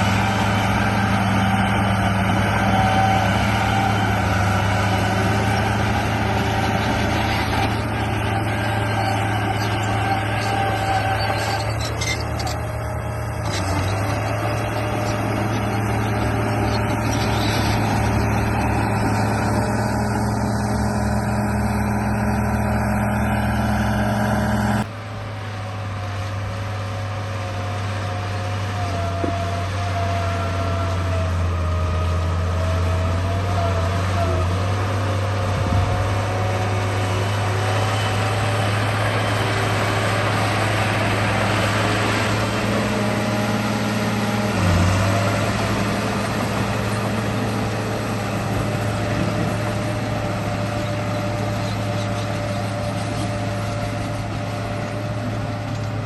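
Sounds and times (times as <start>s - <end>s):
toy bulldozer engine drone: 0.0s - 56.0s.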